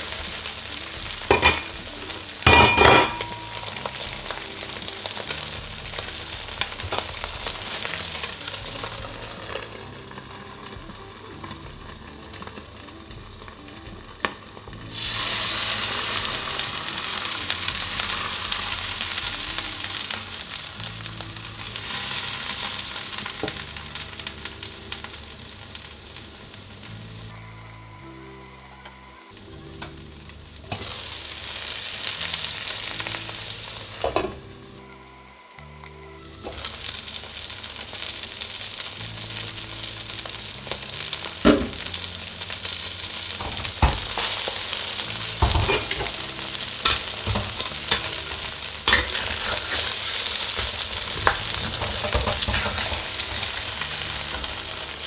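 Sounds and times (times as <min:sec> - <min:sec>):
noodles sizzling in a wok: 0:00.0 - 0:55.0.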